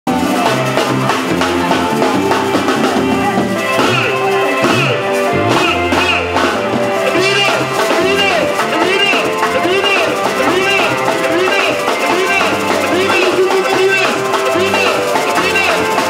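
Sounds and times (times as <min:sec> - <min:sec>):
guitar bass and drums music: 0:00.1 - 0:16.0.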